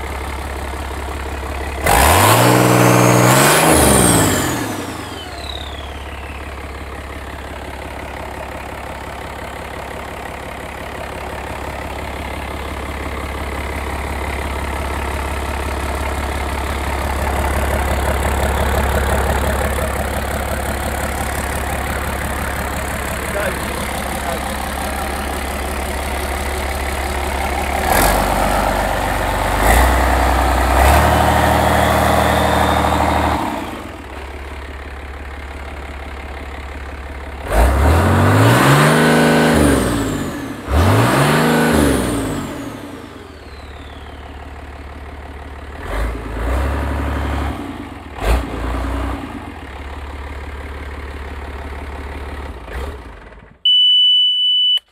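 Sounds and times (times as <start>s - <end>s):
diesel engine revving and idling: 0.0s - 53.7s.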